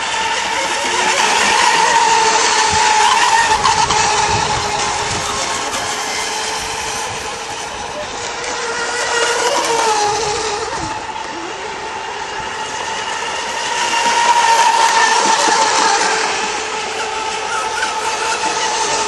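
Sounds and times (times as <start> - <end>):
racing boat motor whine: 0.0 - 19.0.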